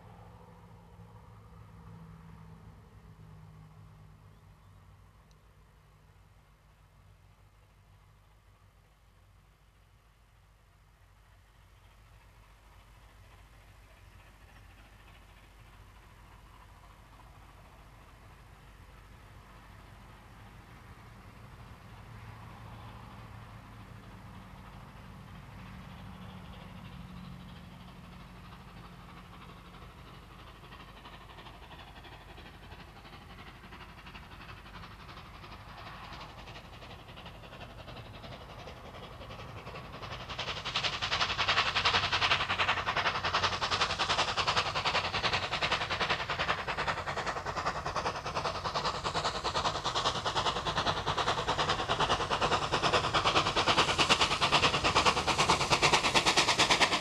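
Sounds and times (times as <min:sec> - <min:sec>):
steam locomotive chuffing: 0:00.0 - 0:57.0.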